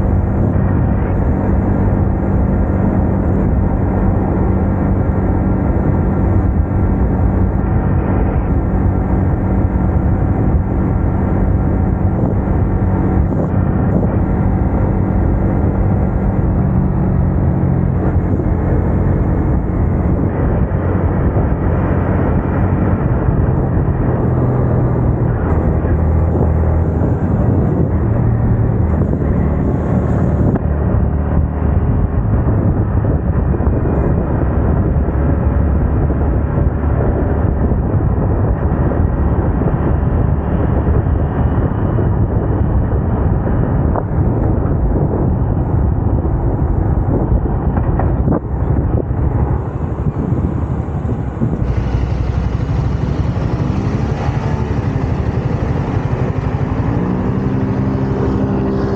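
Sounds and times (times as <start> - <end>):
motorcycle engine and exhaust running: 0.0 - 58.9
wind noise on microphone: 0.0 - 58.9.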